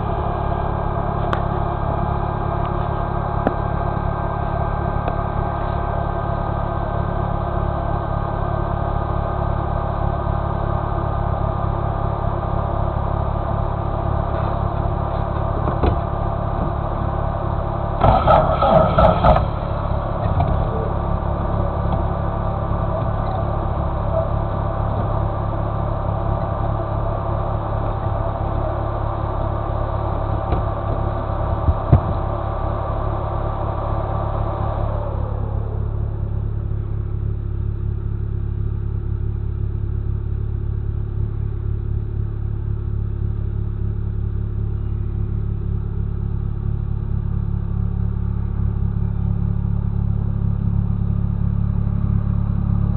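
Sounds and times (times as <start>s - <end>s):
buggy engine idling: 0.0s - 52.9s.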